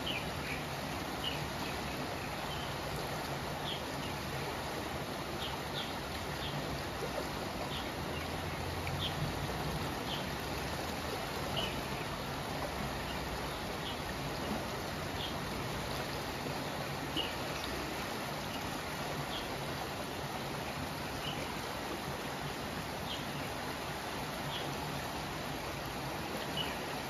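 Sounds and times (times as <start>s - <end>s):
river water rushing over weir: 0.0s - 27.0s.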